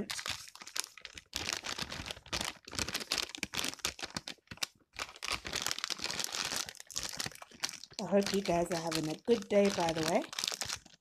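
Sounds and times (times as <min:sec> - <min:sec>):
packet crinkling: 0:00.0 - 0:11.0.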